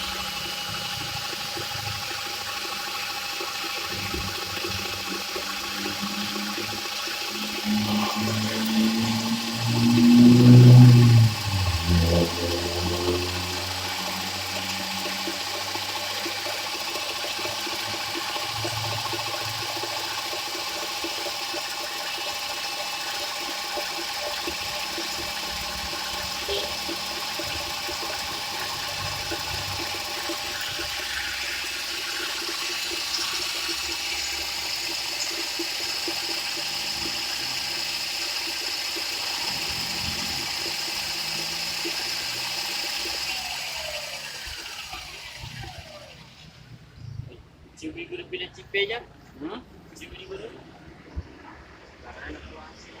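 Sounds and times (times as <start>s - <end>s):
electric drill whirring: 0.0s - 46.7s.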